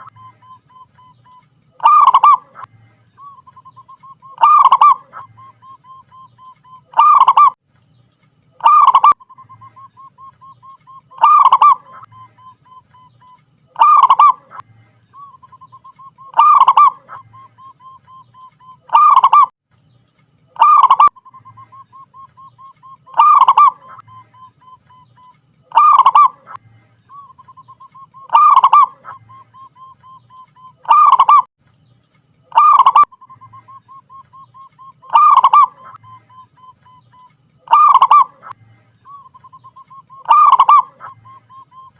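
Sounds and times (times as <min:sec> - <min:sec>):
dove cooing with soft trill: 0:00.0 - 0:07.6, 0:08.6 - 0:14.6, 0:15.5 - 0:19.5, 0:20.6 - 0:26.6, 0:27.4 - 0:31.5, 0:32.5 - 0:38.6, 0:39.4 - 0:41.9.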